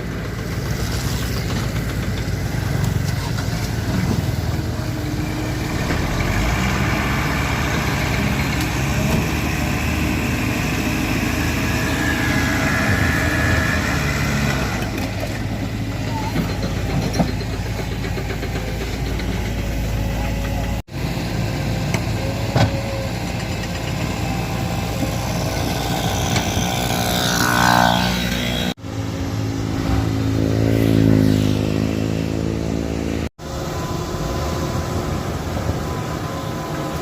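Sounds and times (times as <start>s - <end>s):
heavy diesel engines running: 0.0s - 27.2s, 31.5s - 37.0s.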